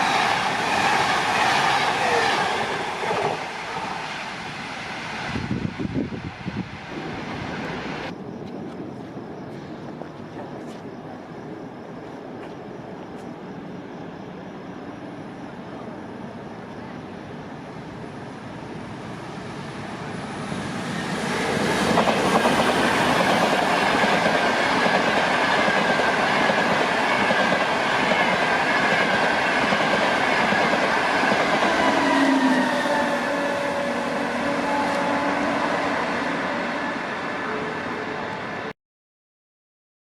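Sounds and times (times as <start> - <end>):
train passing through station: 0.0 - 38.7.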